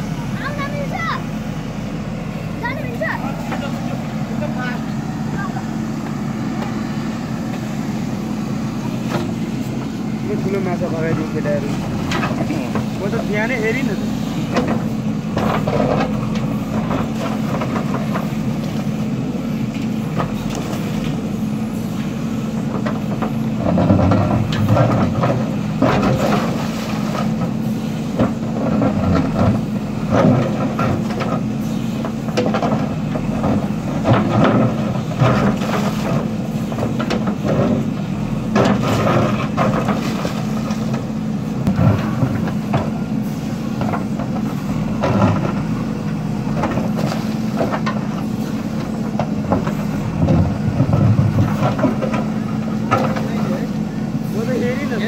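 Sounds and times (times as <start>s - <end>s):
diesel engine running under load: 0.0s - 55.0s
digger bucket clanking and scraping: 0.0s - 55.0s.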